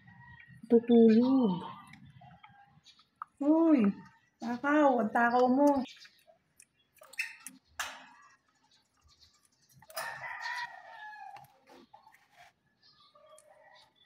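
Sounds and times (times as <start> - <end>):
lovebirds chirping and squawking: 0.0 - 14.0.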